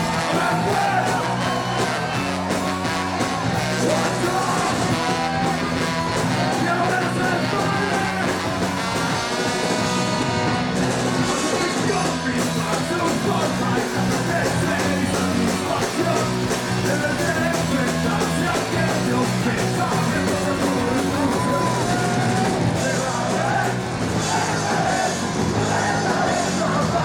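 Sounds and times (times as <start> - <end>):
live ska band playing: 0.0 - 27.0
steady drum beat: 0.0 - 27.0.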